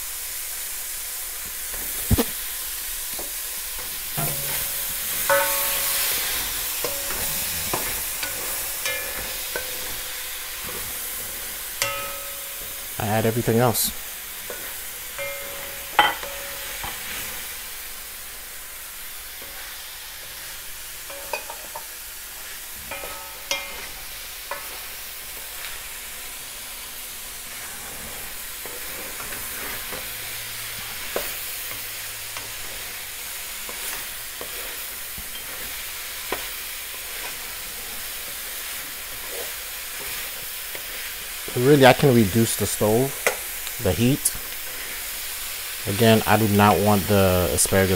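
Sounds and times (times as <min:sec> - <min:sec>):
vegetables sizzling in a pot: 0:00.0 - 0:47.9.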